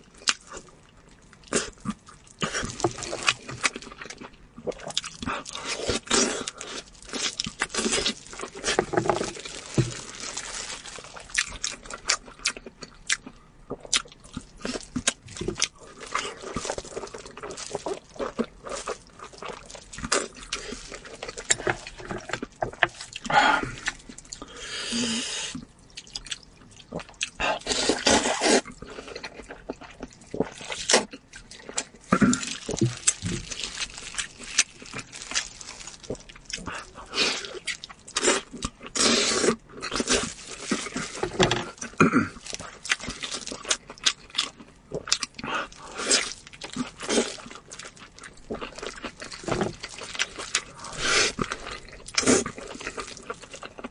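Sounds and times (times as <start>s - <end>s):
crunchy bites and chewing: 1.4s - 24.5s, 25.5s - 53.9s.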